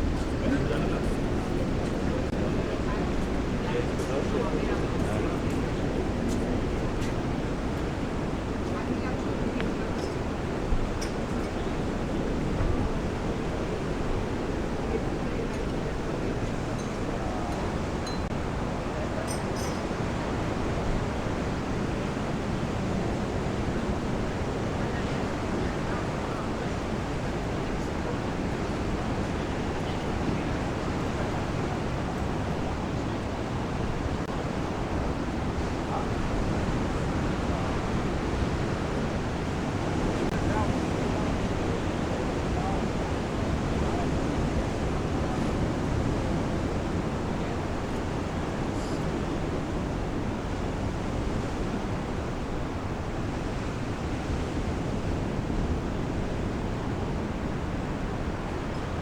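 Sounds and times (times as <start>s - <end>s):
sea surf washing onto beach: 0.0s - 59.0s.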